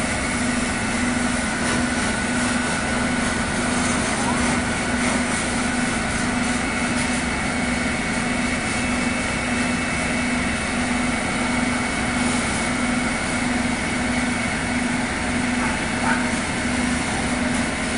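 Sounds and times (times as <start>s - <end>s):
fire engine motor idling: 0.0s - 17.9s.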